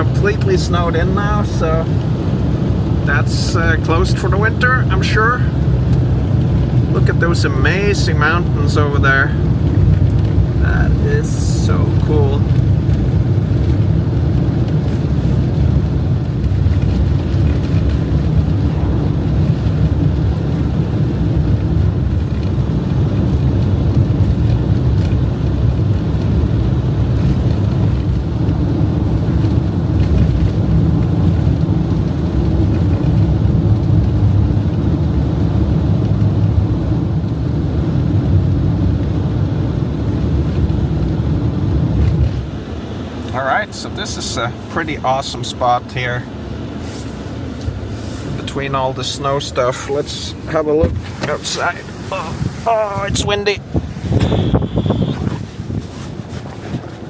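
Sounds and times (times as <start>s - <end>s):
engine and tyres rumbling: 0.0s - 57.0s.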